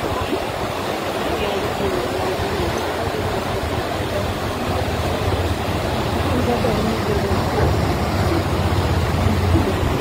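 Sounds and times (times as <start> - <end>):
faint distant voices: 0.0 - 10.0
river water rushing: 0.0 - 10.0.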